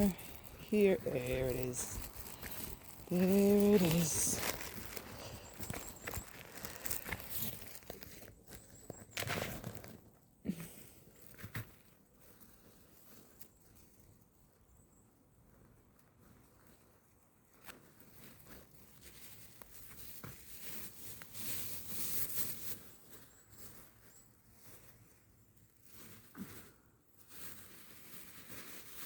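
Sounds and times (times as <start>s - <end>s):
rustling and crunching on woodland floor: 0.0s - 29.0s.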